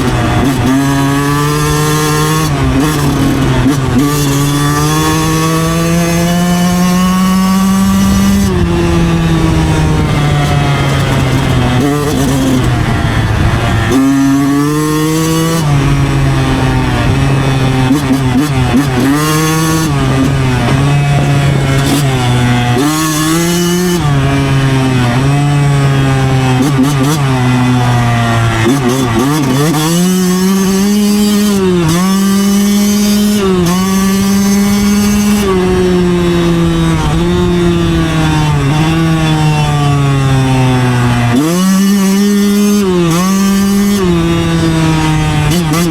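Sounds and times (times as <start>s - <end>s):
dirt bike engine revving: 0.0s - 45.9s
rushing wind: 0.0s - 45.9s.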